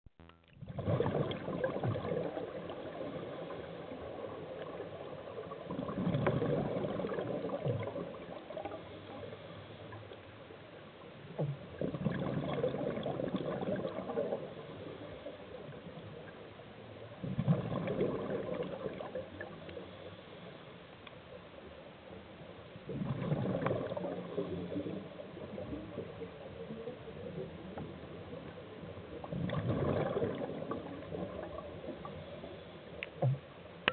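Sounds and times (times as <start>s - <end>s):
regulator bubbles gurgling underwater: 0.6s - 20.5s, 21.4s - 33.9s.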